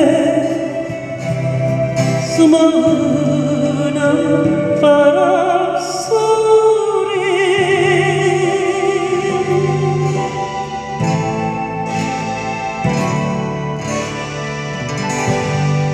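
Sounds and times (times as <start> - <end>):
acoustic guitar: 0.0 - 15.9
person singing: 0.0 - 15.9.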